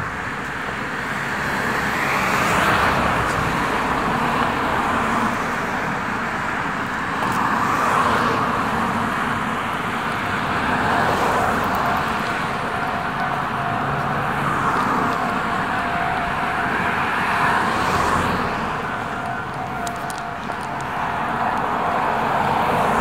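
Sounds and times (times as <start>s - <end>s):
cars passing on road: 0.0s - 23.0s.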